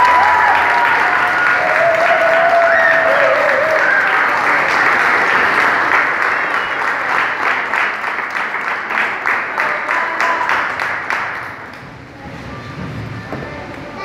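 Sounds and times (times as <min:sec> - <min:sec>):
people applauding: 0:00.0 - 0:11.9.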